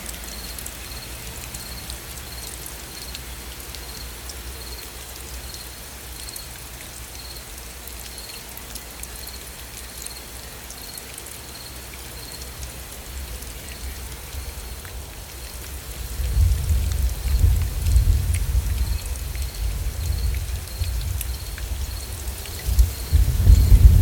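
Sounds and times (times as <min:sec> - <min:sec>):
gentle rain: 0:00.0 - 0:24.0.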